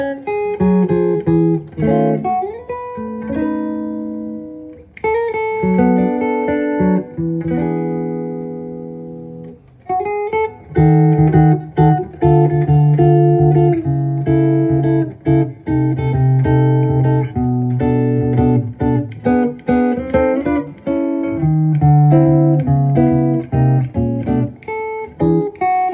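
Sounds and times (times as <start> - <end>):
electric guitar playing chords: 0.0 - 25.9.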